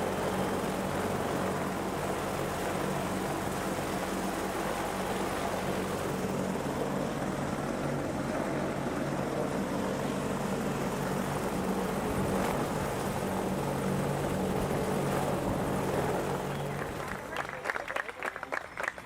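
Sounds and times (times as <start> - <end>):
helicopter engines and rotors: 0.0 - 19.0.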